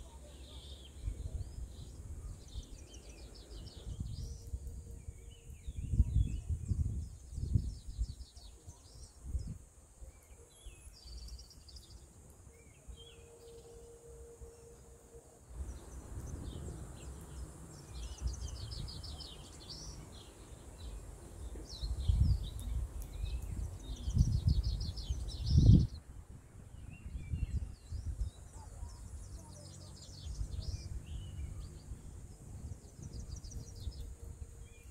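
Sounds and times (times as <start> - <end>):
small birds chirping and trilling: 0.0 - 14.0, 15.6 - 26.1, 26.8 - 34.9
wind buffeting the microphone: 0.9 - 9.7, 15.6 - 34.9.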